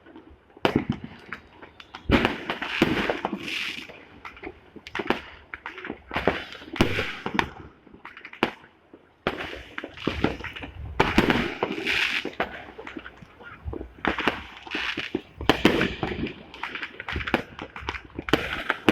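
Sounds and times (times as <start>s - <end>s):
fireworks and firecrackers cracking: 0.0s - 18.9s.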